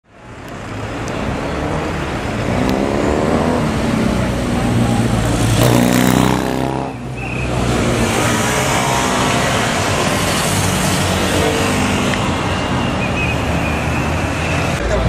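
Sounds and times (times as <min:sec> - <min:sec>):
street traffic: 0:00.0 - 0:15.0
crowd milling: 0:00.2 - 0:15.0
motorcycle passing: 0:00.7 - 0:14.8.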